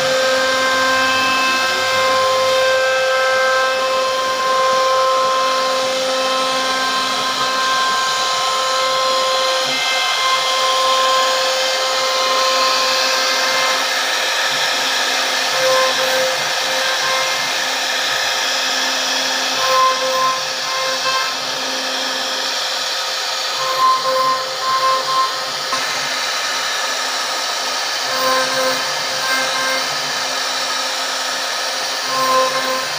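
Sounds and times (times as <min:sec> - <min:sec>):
router spindle whine: 0:00.0 - 0:32.9
wood cutting hiss: 0:00.0 - 0:32.9.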